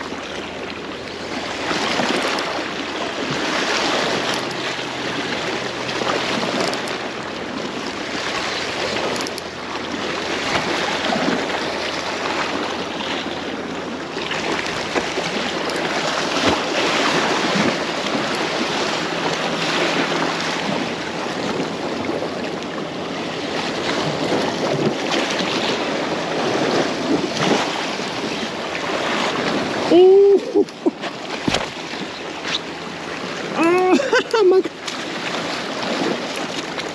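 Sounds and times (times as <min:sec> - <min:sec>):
waves washing over rocks: 0:00.0 - 0:36.9.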